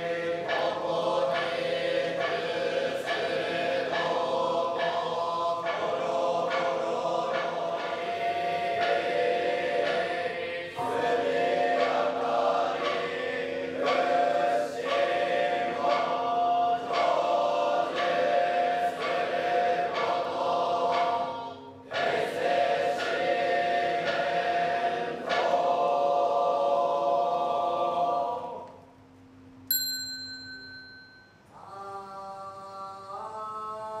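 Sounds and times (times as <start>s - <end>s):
monks chanting in unison: 0.0s - 28.7s.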